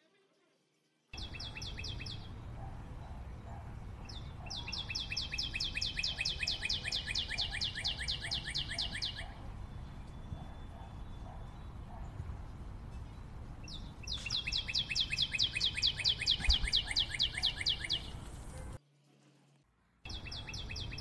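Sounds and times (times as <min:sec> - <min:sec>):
bird chirping: 0:01.1 - 0:18.8, 0:20.1 - 0:21.0.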